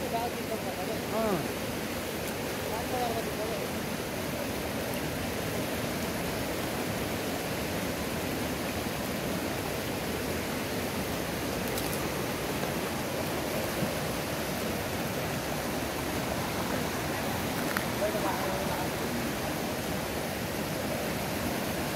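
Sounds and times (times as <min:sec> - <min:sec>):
river rushing over rocks: 0:00.0 - 0:21.9.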